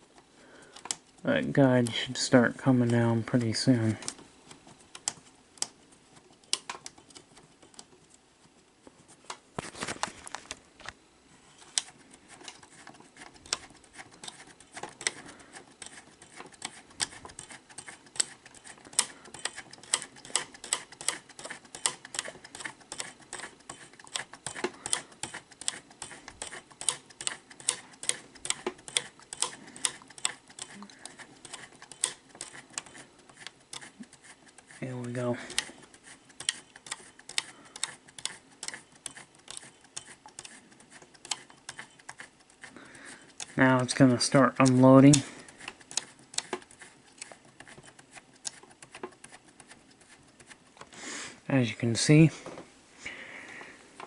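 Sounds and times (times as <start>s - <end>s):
small plastic clicks: 0.0s - 8.2s, 11.6s - 50.9s.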